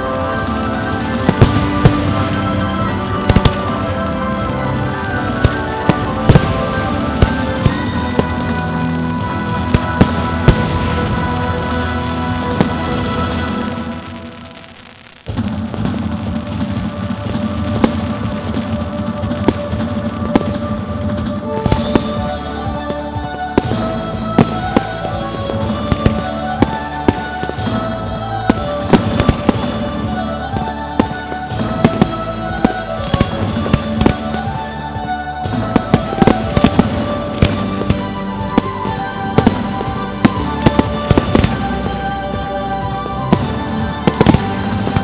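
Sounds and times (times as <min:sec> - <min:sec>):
fireworks bangs and bursts: 0:00.0 - 0:45.0
melodic music: 0:00.0 - 0:45.0.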